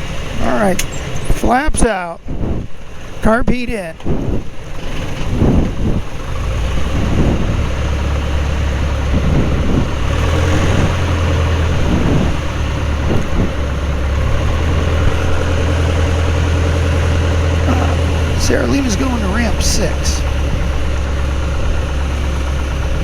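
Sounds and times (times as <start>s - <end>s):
light aircraft engine droning: 4.2s - 23.0s.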